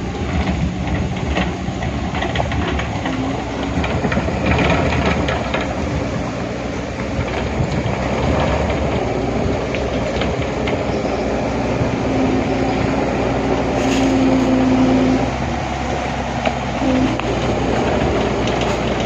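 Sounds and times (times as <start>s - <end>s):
mechanical rumble: 0.0s - 19.0s.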